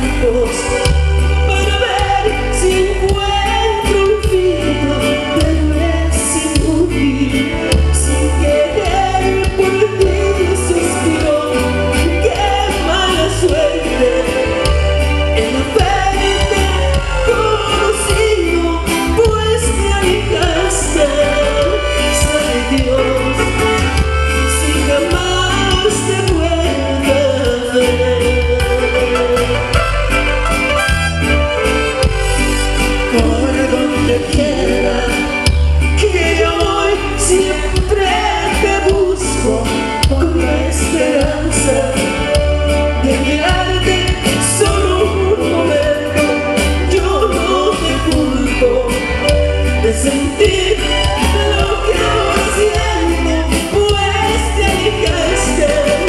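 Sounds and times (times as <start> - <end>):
live band through pa: 0.0 - 56.0
man singing lead: 0.0 - 56.0.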